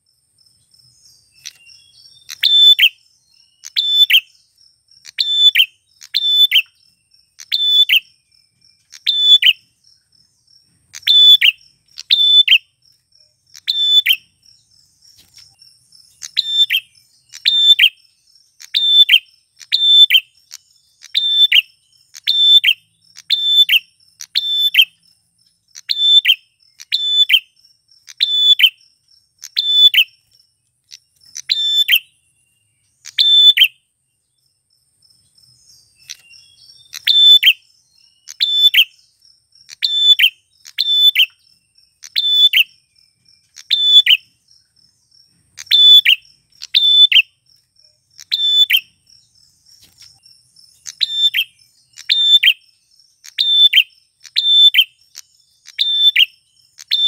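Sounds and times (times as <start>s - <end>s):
high insect-like trill: 0.0s - 57.0s
bird chirping sharply: 0.9s - 9.8s, 10.7s - 12.8s, 13.4s - 25.0s, 25.7s - 28.8s, 29.4s - 33.8s, 35.6s - 44.4s, 45.5s - 47.4s, 48.1s - 49.1s, 49.8s - 57.0s.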